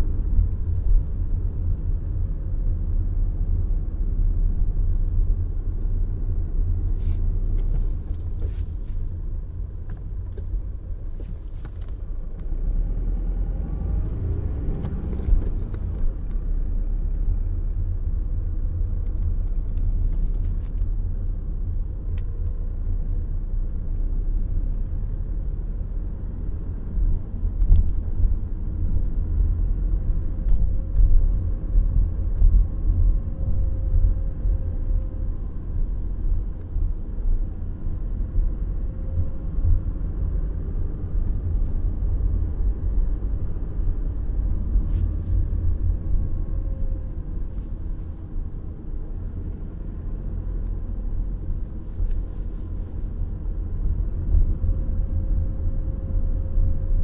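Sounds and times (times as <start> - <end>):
diesel car engine and tyres: 0.0 - 57.0.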